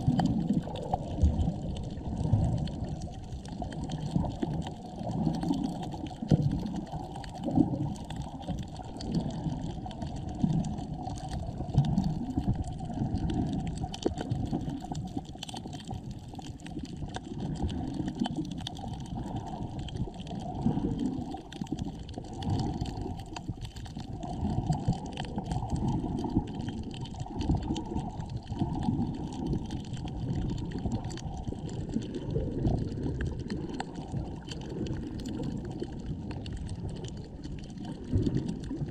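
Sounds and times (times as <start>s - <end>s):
underwater water sloshing and gurgling: 0.0s - 38.9s.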